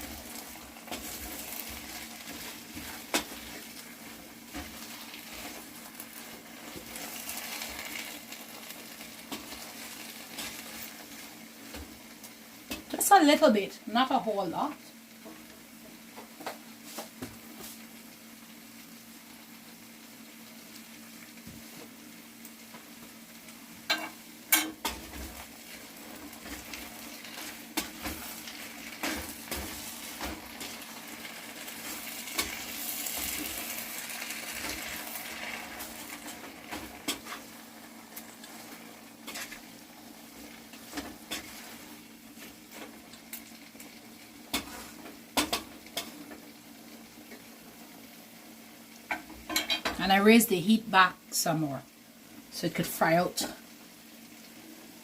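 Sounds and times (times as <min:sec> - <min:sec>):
okra sizzling in oil: 0:00.0 - 0:55.0.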